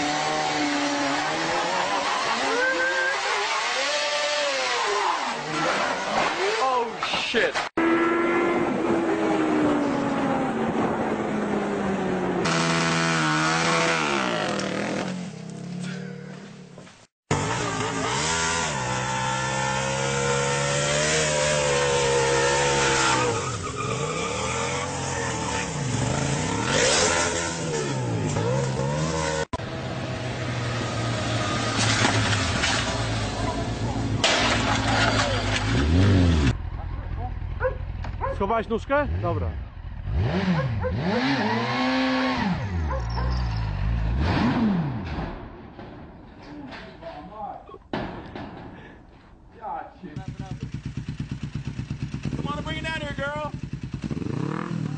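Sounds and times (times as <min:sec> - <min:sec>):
motorcycle engine revving: 0:00.0 - 0:06.8, 0:07.8 - 0:45.6, 0:50.0 - 0:54.9.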